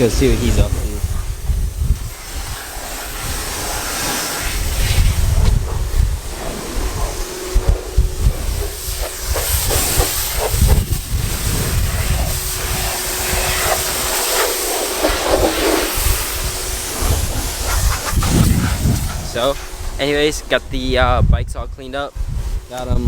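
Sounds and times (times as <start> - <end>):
pump hum: 0.0 - 20.6
pressure washer spraying: 0.0 - 20.7.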